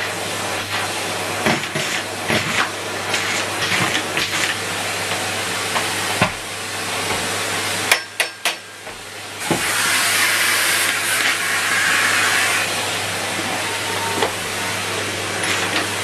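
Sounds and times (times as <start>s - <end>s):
vacuum cleaner running: 0.0s - 7.9s, 8.7s - 16.0s.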